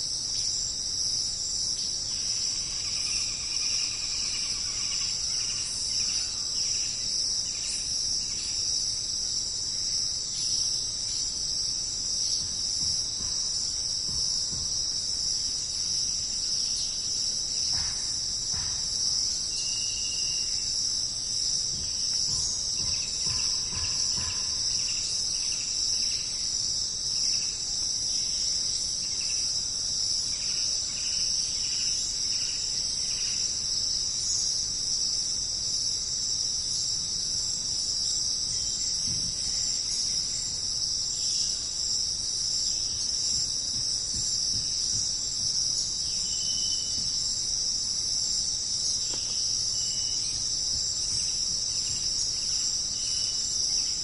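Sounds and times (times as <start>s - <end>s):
crickets chorus: 0.0s - 54.0s.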